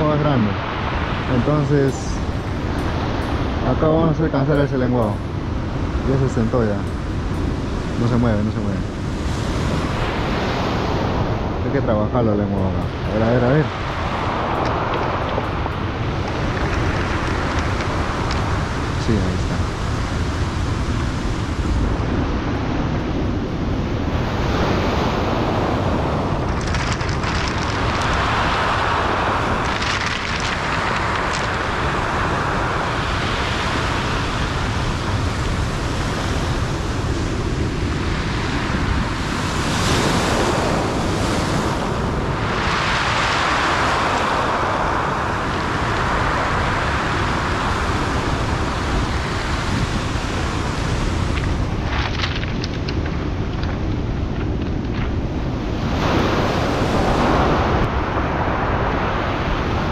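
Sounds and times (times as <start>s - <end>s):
surf on pebble beach: 0.0s - 59.9s
wind buffeting microphone: 0.0s - 59.9s.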